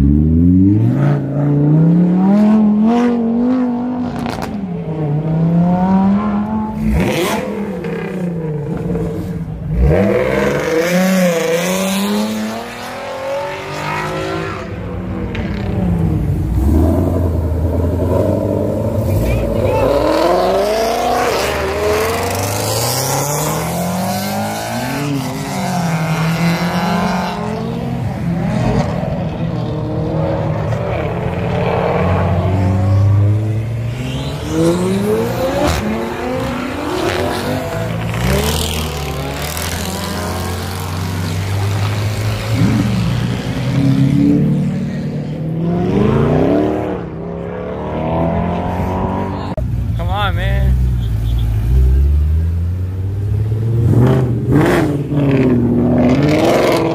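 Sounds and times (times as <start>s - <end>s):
car engines revving: 0.0s - 56.9s.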